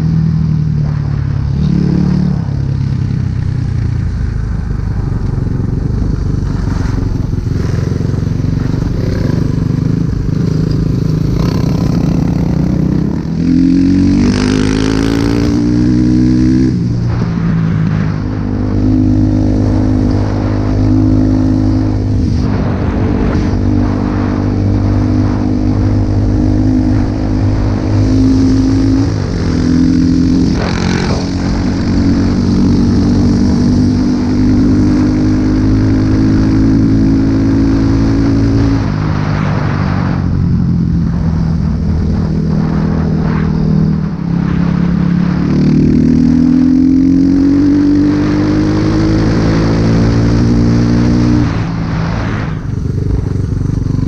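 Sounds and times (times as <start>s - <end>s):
wind on microphone: 0.0s - 54.0s
dirt bike engine revving: 1.6s - 2.8s, 6.1s - 38.8s, 44.0s - 54.0s.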